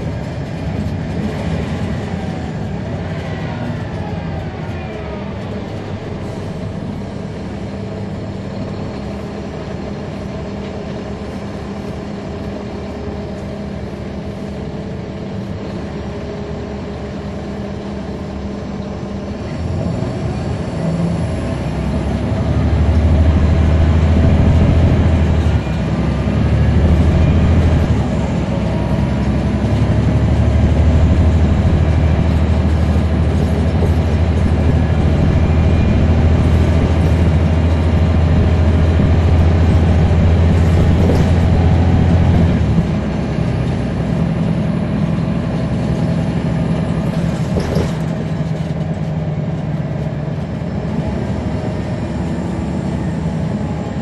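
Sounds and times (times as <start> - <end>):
bus diesel engine pulling: 0.0 - 54.0.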